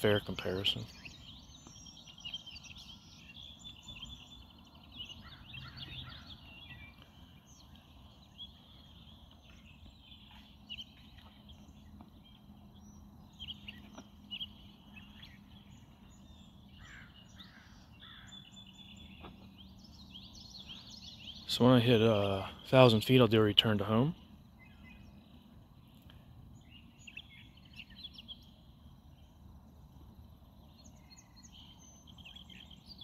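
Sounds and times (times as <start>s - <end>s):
faint low hum: 0.0s - 33.0s
outdoor background noise: 0.0s - 33.0s
small birds chirping: 0.0s - 33.0s.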